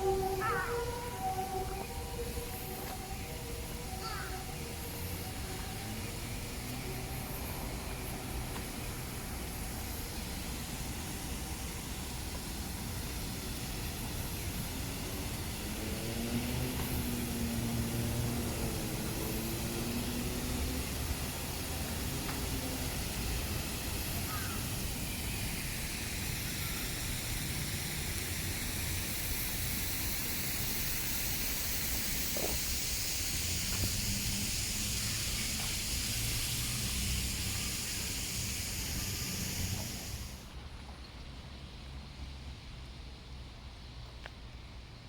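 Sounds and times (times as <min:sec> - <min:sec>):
rain hissing: 0:00.0 - 0:40.6
city traffic rumble: 0:00.0 - 0:45.0.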